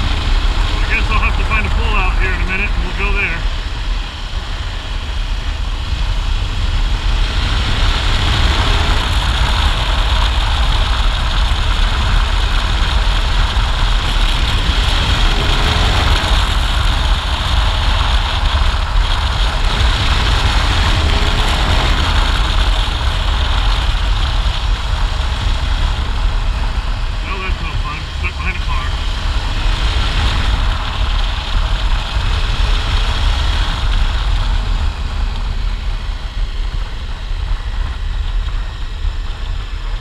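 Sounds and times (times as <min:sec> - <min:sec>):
motorcycle engine running: 0:00.0 - 0:40.0
wind rushing on microphone: 0:00.0 - 0:40.0.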